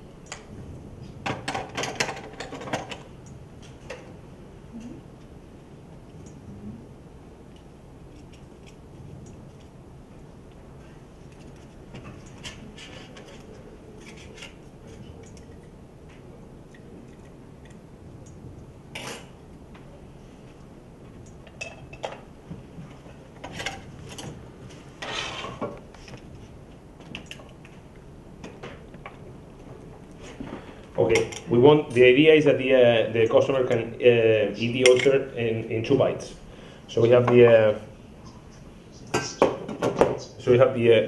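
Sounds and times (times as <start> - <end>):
low room hum: 0.0 - 41.0.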